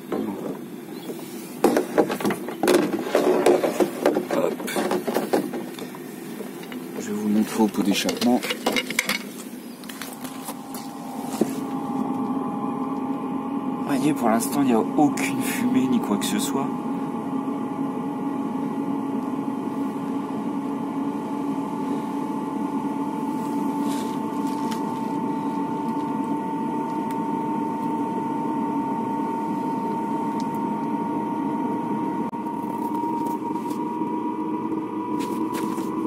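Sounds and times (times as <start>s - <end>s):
diesel air heater humming: 0.0s - 36.0s.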